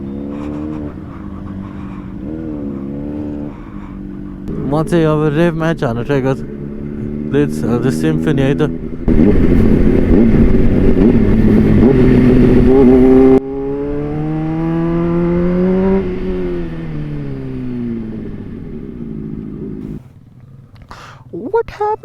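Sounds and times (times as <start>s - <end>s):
motorcycle engines revving: 0.0s - 21.8s.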